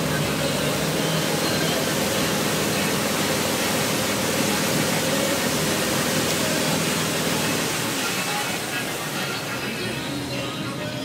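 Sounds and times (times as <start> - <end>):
churning boat wake: 0.0 - 11.0
faint boat engine: 0.0 - 11.0.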